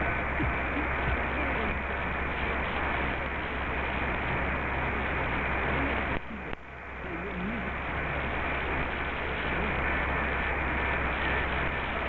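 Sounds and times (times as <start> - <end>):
faint wavering radio signal: 0.0 - 12.0
radio static hiss: 0.0 - 12.0.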